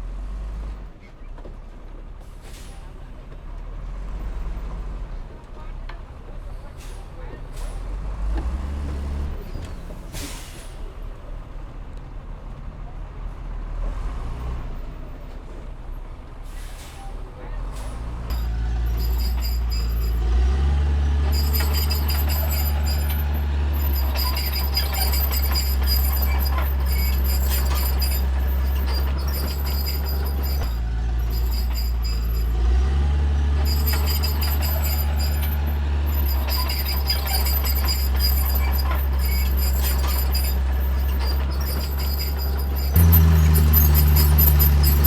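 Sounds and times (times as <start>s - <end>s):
bulldozer diesel engine under load: 0.0s - 45.0s.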